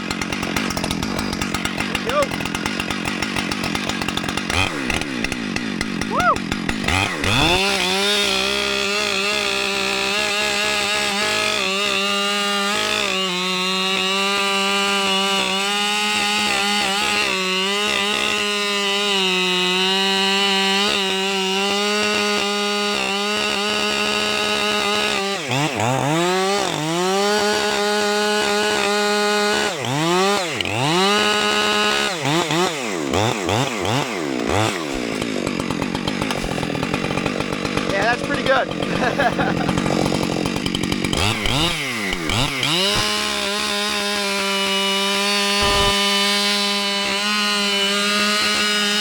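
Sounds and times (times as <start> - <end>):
chainsaw cutting wood: 0.0 - 49.0
chainsaw engine revving: 0.0 - 49.0.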